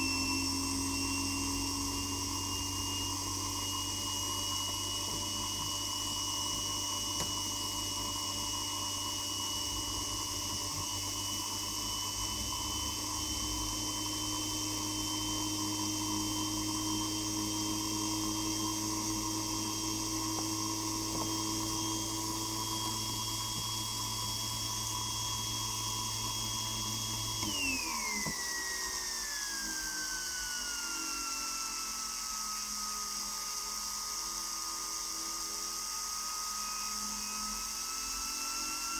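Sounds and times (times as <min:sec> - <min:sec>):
steam turbine whine: 0:00.0 - 0:38.9.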